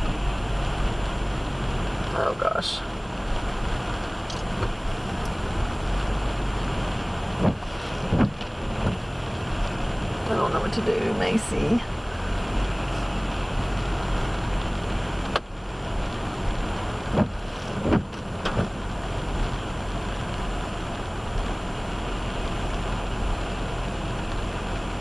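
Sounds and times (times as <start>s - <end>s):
car moving through rain: 0.0s - 25.0s
heavy rain: 0.0s - 25.0s.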